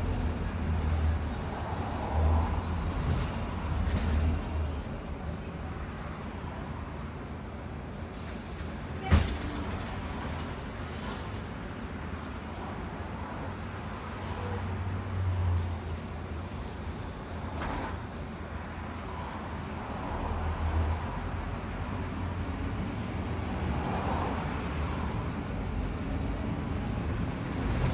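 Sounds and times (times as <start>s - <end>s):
bus engine and road drone: 0.0s - 27.9s.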